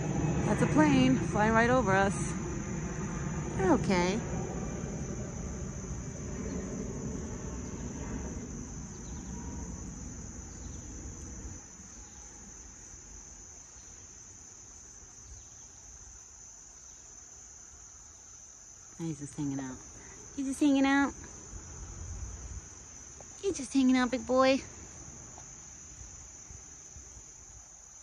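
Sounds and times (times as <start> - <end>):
plane rumbling overhead: 0.0 - 16.6, 19.0 - 27.9
insects chorus: 0.0 - 28.0.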